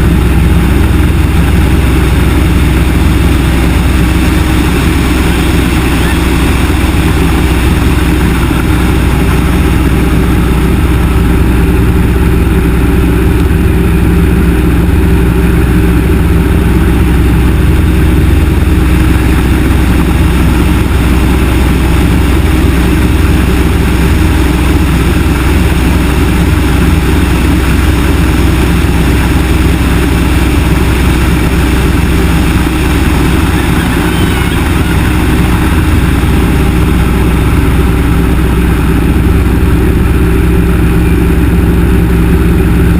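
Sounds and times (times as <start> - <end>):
radial aircraft engine running: 0.0 - 42.9.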